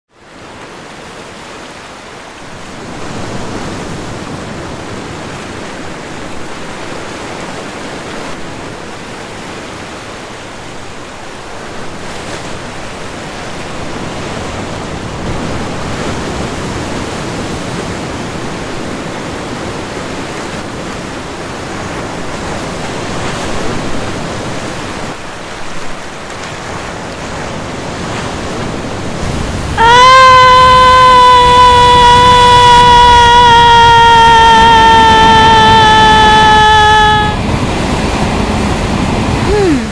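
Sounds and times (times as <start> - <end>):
ocean waves washing on shore: 0.1 - 39.9.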